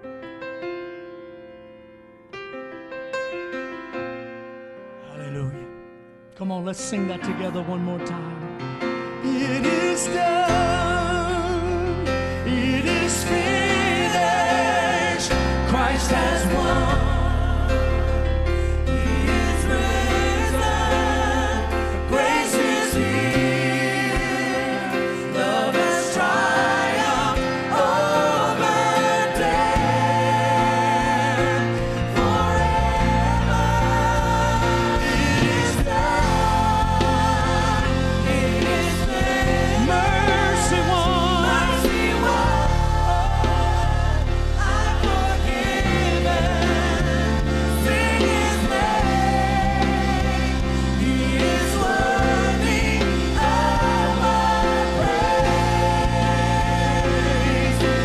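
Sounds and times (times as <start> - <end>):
instrumental accompaniment with bass: 5.0 - 58.0
congregation singing with band: 8.8 - 58.0.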